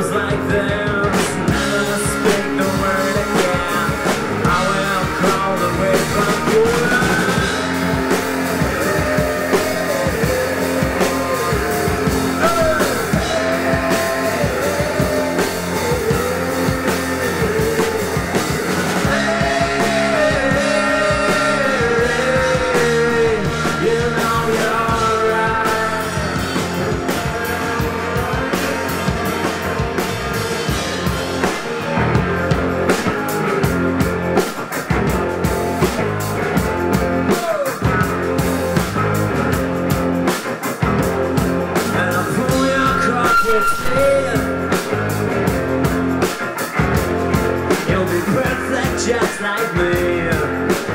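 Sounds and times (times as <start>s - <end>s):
bass guitar: 0.0s - 50.9s
drums: 0.0s - 50.9s
electric guitars: 0.0s - 50.9s.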